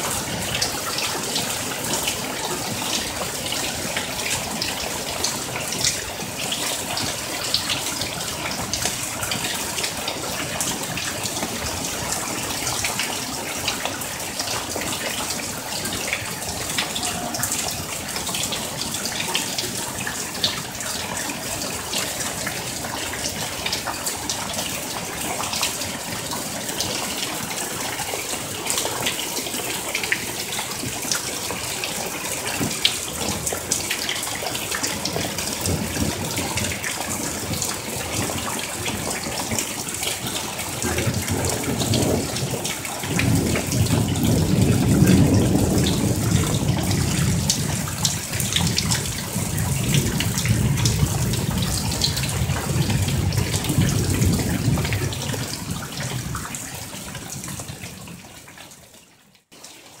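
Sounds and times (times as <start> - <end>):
rain splashing on concrete and pool: 0.0 - 60.0
water pouring off roof: 0.0 - 60.0.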